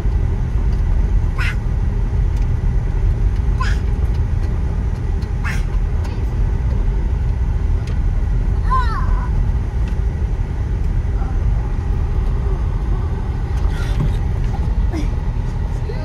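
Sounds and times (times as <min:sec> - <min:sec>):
tyres and engine rumble: 0:00.0 - 0:16.0.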